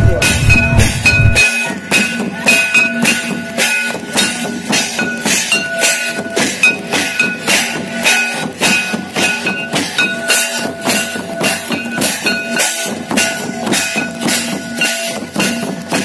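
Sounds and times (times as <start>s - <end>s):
kettle and barrel drums beating: 0.0s - 16.0s.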